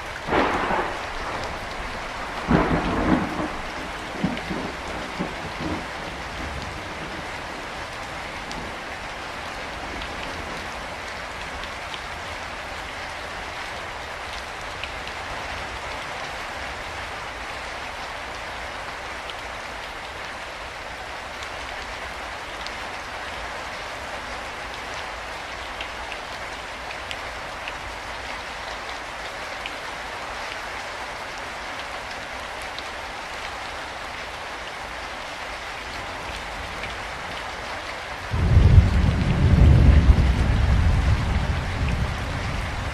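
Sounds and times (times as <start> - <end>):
rain hissing on a surface: 0.0 - 42.9.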